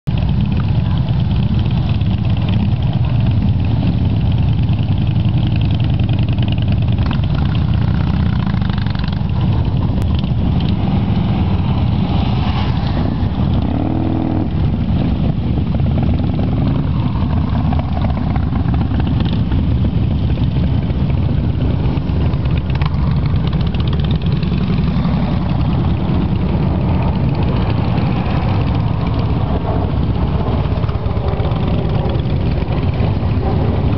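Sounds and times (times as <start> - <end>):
motorcycle engines rumbling: 0.0 - 33.9.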